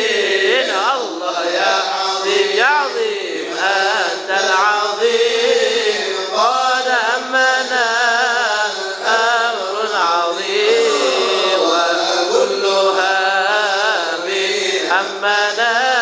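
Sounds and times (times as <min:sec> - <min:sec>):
men singing into a microphone: 0:00.0 - 0:16.0.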